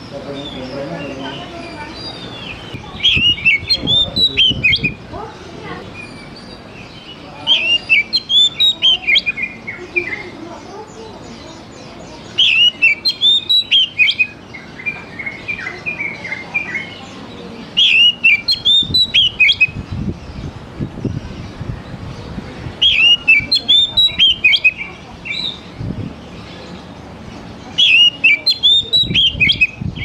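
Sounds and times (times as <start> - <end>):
bird singing whistled notes: 0.0 - 5.0, 5.9 - 21.6, 22.8 - 25.8, 27.6 - 30.0.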